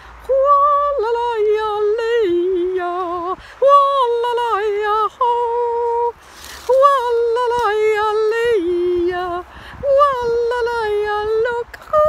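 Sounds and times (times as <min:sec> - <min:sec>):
woman singing wordless notes: 0:00.0 - 0:12.0.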